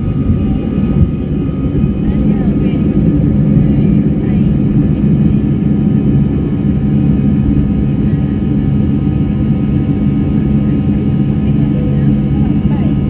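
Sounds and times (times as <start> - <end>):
jet engine whining tones: 0.0 - 13.0
jet engines at takeoff power: 0.0 - 13.0.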